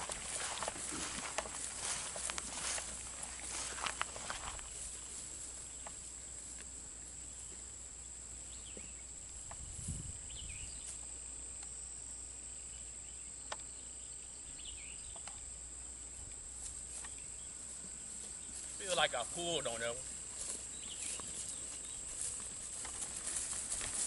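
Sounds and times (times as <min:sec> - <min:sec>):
crickets buzzing: 0:00.0 - 0:24.0.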